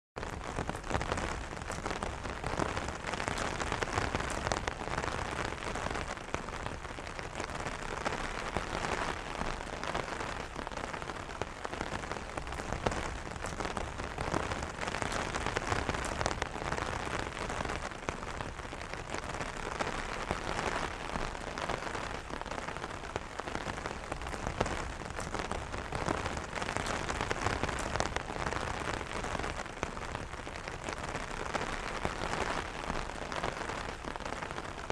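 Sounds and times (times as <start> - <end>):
rain pattering on umbrella: 0.2 - 34.9.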